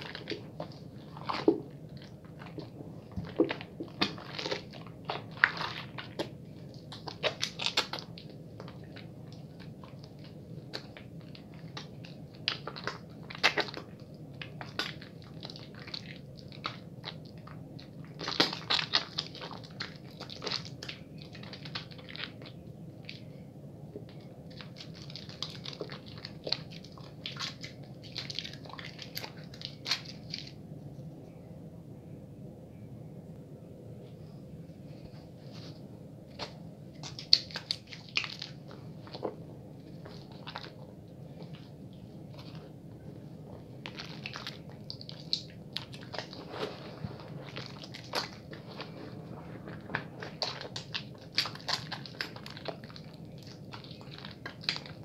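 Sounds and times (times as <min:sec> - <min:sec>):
soap lathering squishes: 0:00.0 - 0:30.6, 0:36.3 - 0:55.0
steady low hum: 0:00.0 - 0:55.0.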